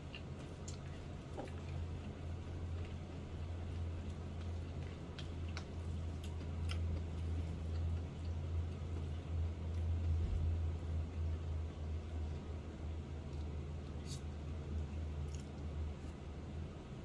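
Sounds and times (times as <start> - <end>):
person chewing food: 0.0 - 11.3, 13.2 - 16.2
low hum: 0.0 - 17.0.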